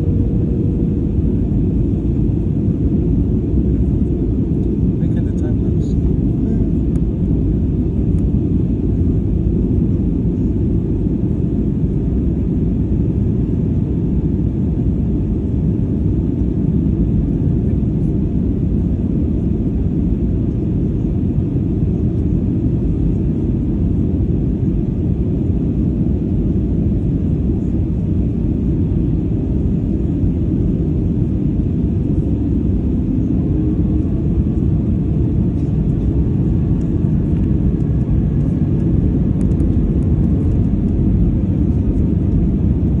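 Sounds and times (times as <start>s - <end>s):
air rushing in cabin: 0.0s - 43.0s
jet engines rumbling: 0.0s - 43.0s.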